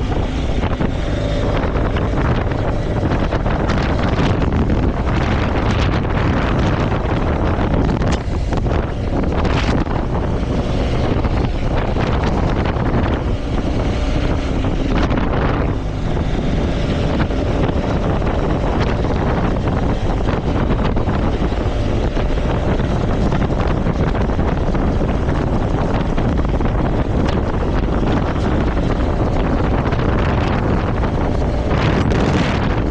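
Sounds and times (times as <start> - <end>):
motorcycle engine running: 0.0 - 32.9
wind rushing over microphone: 0.0 - 32.9.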